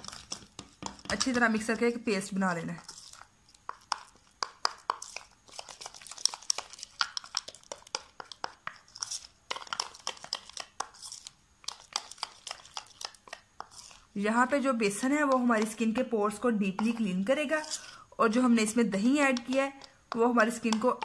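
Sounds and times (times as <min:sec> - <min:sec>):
spoon scraping glass bowl: 0:00.0 - 0:01.9, 0:02.7 - 0:18.0
paste squishing: 0:00.0 - 0:21.0.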